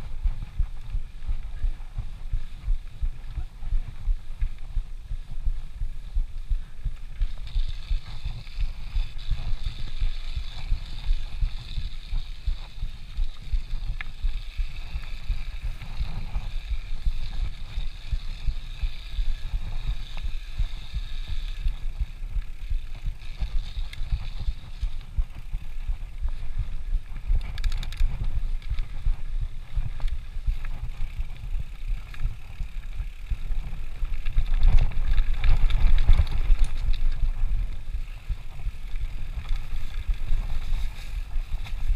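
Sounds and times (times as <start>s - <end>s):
mountain bike rumbling over dirt trail: 0.0s - 41.9s.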